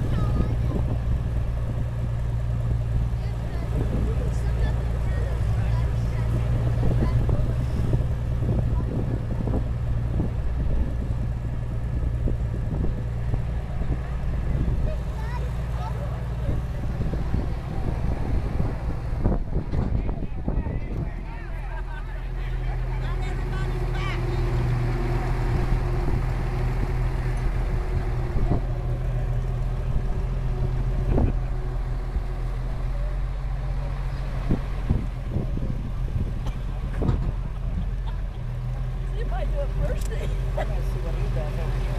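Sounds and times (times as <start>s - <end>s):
tractor engine droning: 0.0s - 41.9s.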